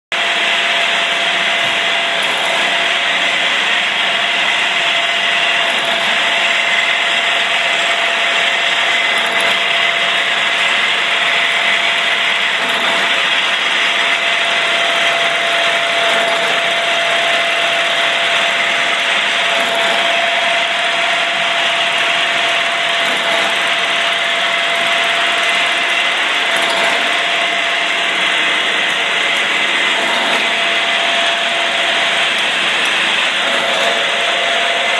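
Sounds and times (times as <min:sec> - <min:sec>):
screw machine running with whine: 0:00.1 - 0:34.9.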